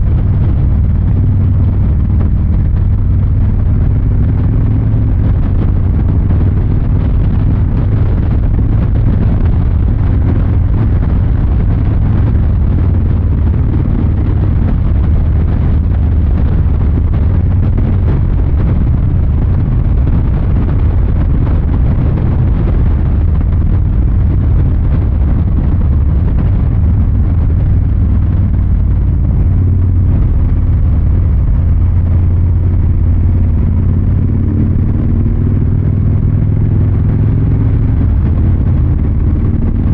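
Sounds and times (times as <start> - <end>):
motorcycle exhaust running: 0.0 - 39.9.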